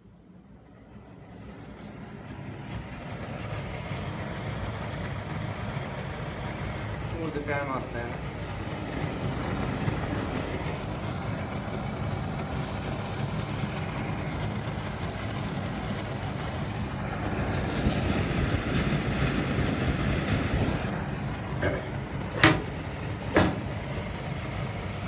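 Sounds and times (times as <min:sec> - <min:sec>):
exhaust fan whirring: 0:00.0 - 0:25.0.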